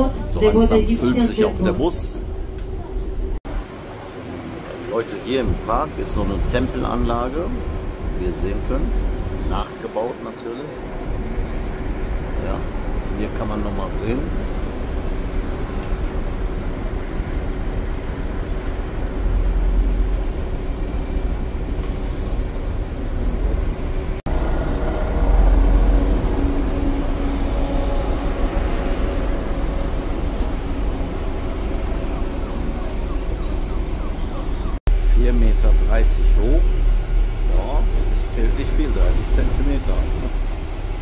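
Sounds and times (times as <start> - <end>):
bus engine rumble: 0.0 - 41.0
traffic noise: 0.0 - 41.0.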